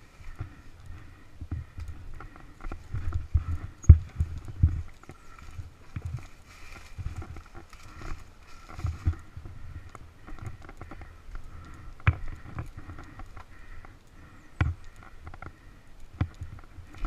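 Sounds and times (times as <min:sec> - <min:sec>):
dirt bike engine at low throttle: 0:00.0 - 0:17.0.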